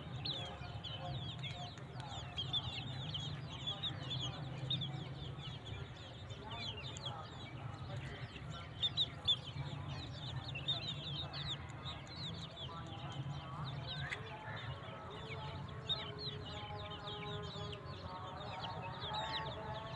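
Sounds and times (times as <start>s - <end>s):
chicks peeping: 0.0s - 19.9s
hens clucking: 0.0s - 19.9s.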